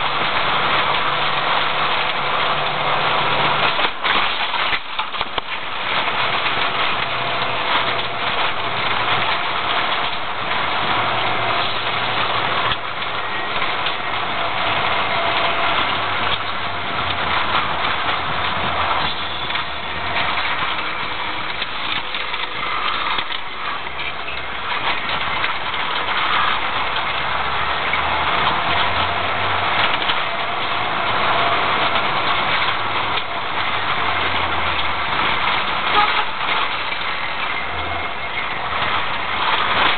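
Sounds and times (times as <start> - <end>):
knocks and rattles: 0.0 - 39.9
tyre and road noise: 0.0 - 39.9.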